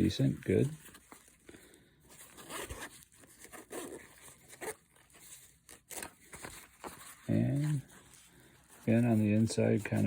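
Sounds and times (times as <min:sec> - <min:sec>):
fabric rustling: 0:00.0 - 0:10.0.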